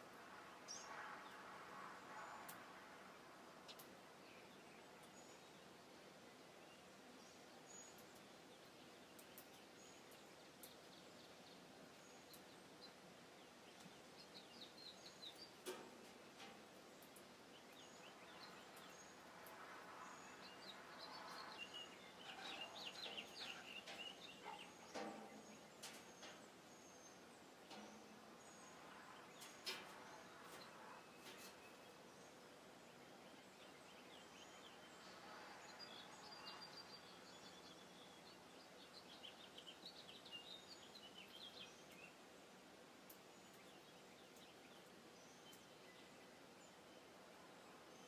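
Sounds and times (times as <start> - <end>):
small birds chirping: 3.6 - 48.0.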